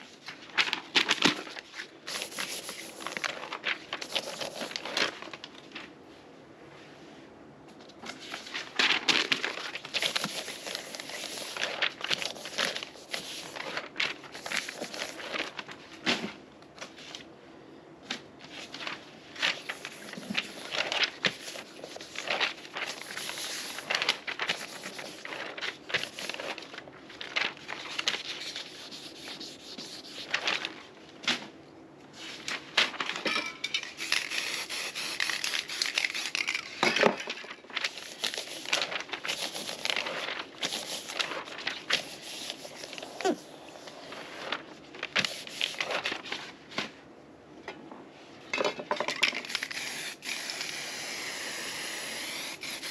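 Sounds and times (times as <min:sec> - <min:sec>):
paper rustling and crinkling: 0:00.0 - 0:06.1, 0:07.7 - 0:17.3, 0:18.1 - 0:47.1, 0:49.0 - 0:52.9.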